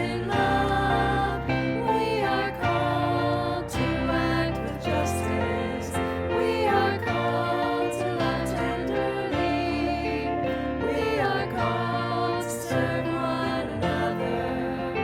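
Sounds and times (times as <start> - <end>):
choir singing a hymn: 0.0 - 15.0
low steady accompaniment: 0.0 - 15.0.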